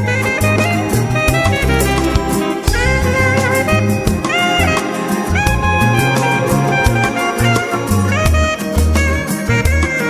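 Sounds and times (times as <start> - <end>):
swing jazz music: 0.0 - 10.0.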